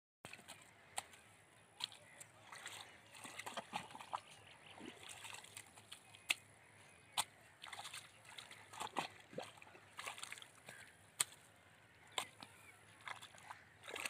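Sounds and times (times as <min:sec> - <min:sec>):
spade scooping wet mud: 0:00.3 - 0:06.4, 0:07.0 - 0:14.0
water sloshing and splashing: 0:00.3 - 0:14.0.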